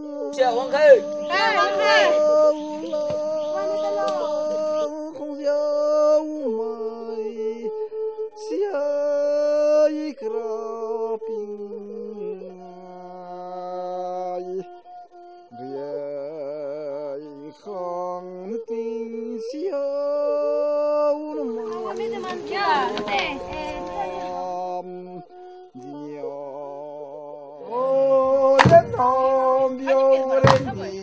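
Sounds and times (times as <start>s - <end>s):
voices singing long notes: 0.0s - 31.0s.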